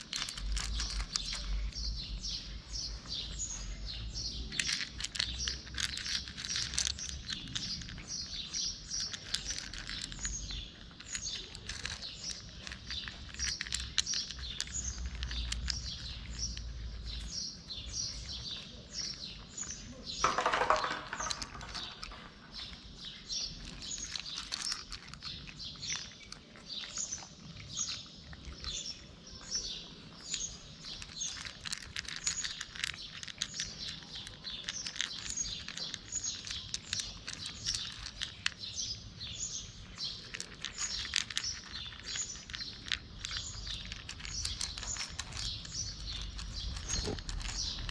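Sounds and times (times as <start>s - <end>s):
cats chewing dry kibble: 0.0s - 47.9s
small birds chirping: 0.0s - 47.9s.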